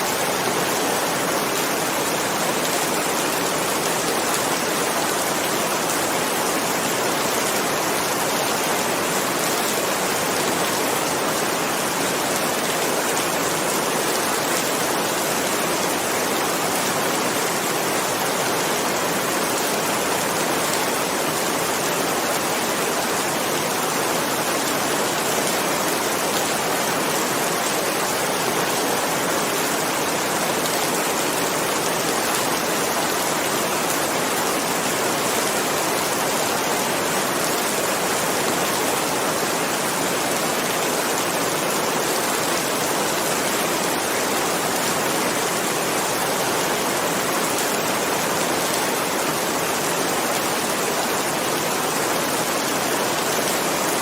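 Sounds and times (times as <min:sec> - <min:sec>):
heavy rainfall: 0:00.0 - 0:54.0.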